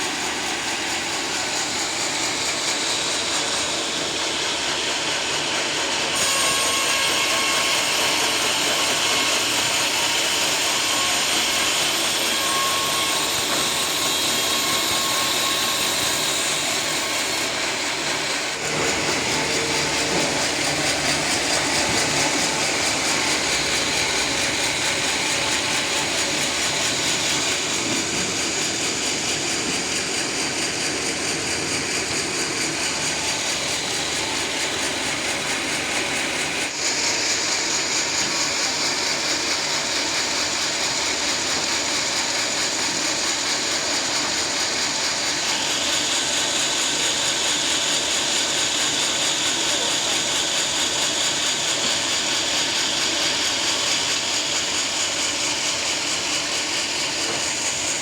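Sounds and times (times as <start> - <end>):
sawmill blade sawing log: 0.0 - 58.0.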